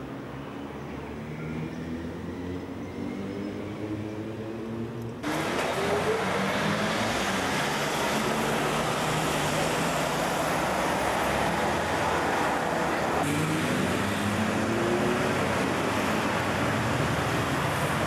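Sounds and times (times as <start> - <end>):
traffic road noise: 0.0 - 18.0
vehicle accelerating: 1.6 - 18.0.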